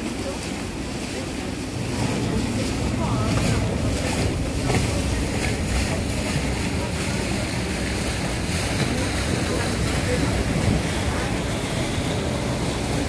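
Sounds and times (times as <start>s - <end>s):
boat engine rumbling: 0.0s - 13.0s
water splashing along hull: 0.0s - 13.0s
wind buffeting microphone: 1.8s - 13.0s.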